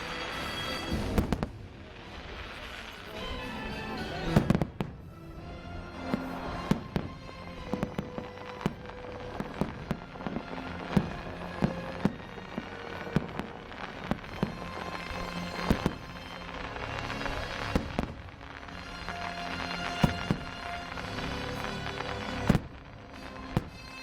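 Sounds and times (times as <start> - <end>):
fireworks bangs: 0.0 - 24.0
show music: 0.0 - 24.0.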